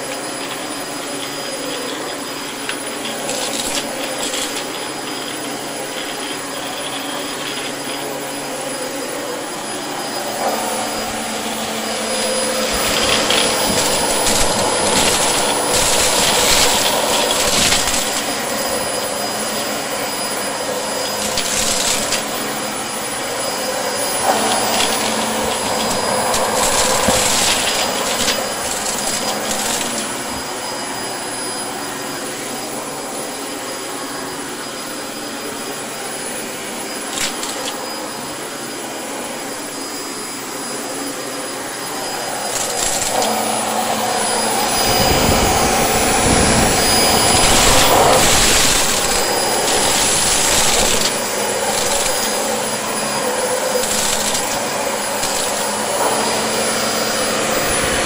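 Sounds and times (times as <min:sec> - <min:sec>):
debris rattling in vacuum: 0:00.0 - 0:32.6, 0:36.9 - 0:37.9, 0:41.8 - 0:58.0
vacuum cleaner whining: 0:00.0 - 0:58.0.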